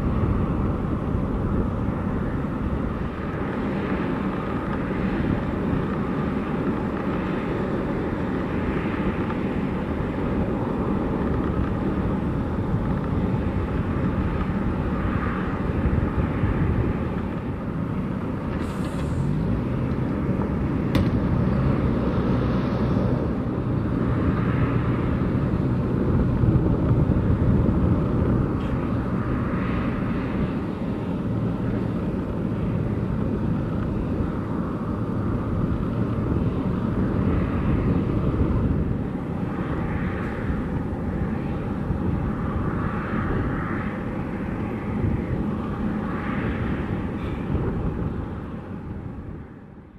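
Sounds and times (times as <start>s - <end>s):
jet engines rumbling: 0.0s - 49.9s.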